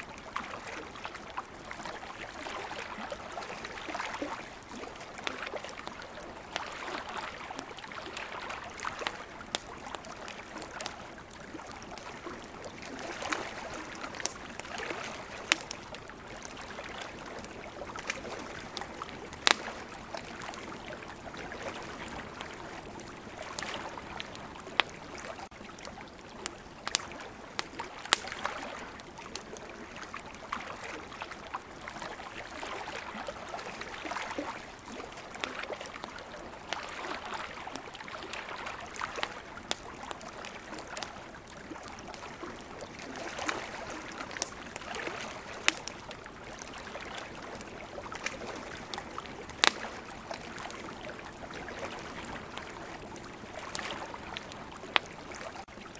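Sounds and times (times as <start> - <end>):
campfire crackling and popping: 0.1 - 55.9.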